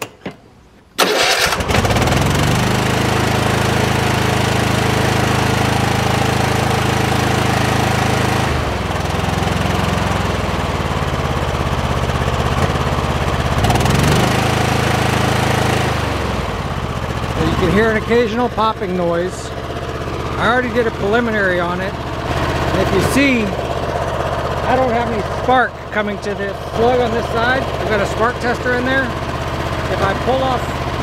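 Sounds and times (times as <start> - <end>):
mower engine starting: 1.0 - 31.0.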